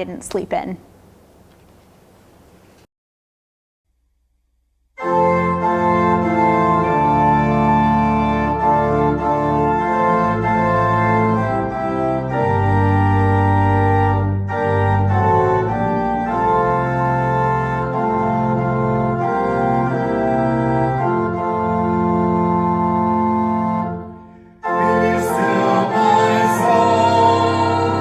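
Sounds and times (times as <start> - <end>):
organ playing sustained chords: 5.0 - 28.0.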